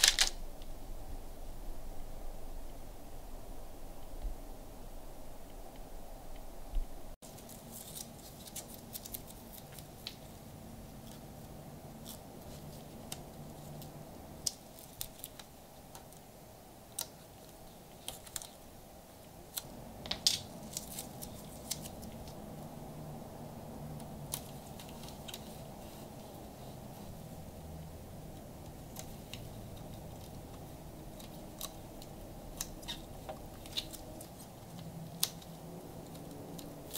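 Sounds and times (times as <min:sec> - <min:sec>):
masking tape crackling: 0:00.0 - 0:00.7, 0:05.4 - 0:22.8, 0:23.9 - 0:36.9
low steady hum: 0:00.0 - 0:36.9.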